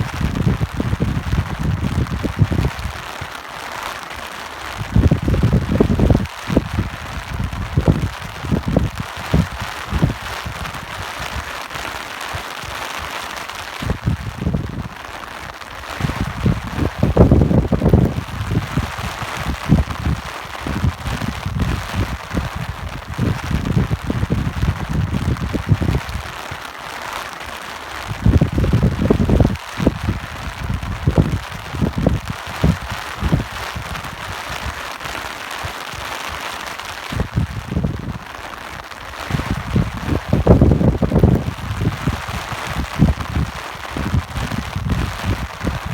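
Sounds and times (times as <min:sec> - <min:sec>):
wind buffeting microphone: 0:00.0 - 0:03.2, 0:04.7 - 0:11.6, 0:13.6 - 0:15.1, 0:15.8 - 0:26.4, 0:28.0 - 0:34.8, 0:37.0 - 0:45.9
rain hissing: 0:00.0 - 0:45.9.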